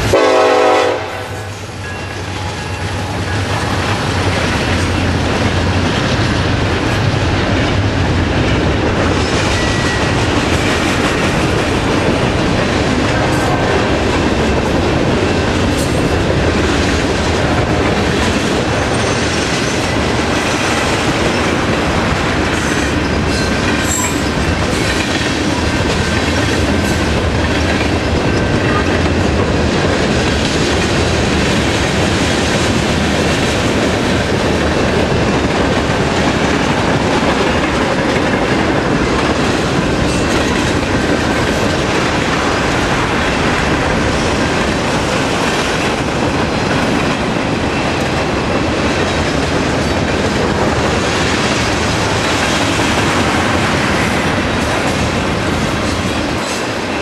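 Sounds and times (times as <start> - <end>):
clickety-clack over rail joints: 0.0 - 57.0
steel wheels roaring on rail: 0.0 - 57.0.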